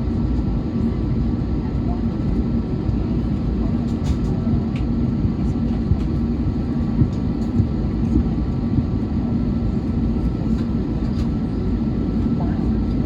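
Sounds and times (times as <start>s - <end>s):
constant hum: 0.0s - 13.0s
low rumble of jet engines: 0.0s - 13.0s.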